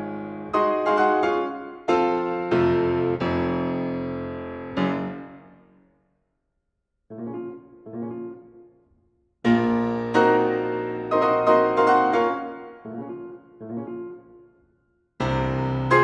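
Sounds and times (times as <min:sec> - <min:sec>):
piano chords: 0:00.0 - 0:05.7, 0:07.1 - 0:14.6, 0:15.2 - 0:16.0.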